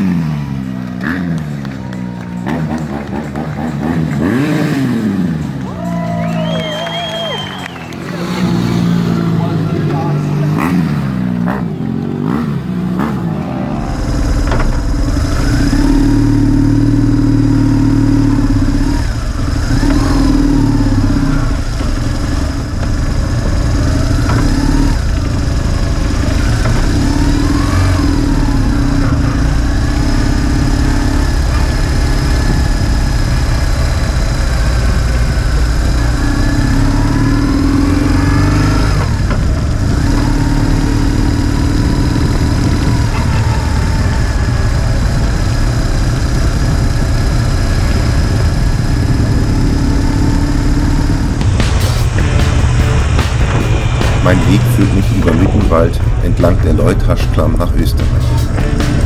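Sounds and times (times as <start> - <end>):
motorcycle engine running: 0.0 - 59.0
other motorcycles revving: 0.0 - 59.0.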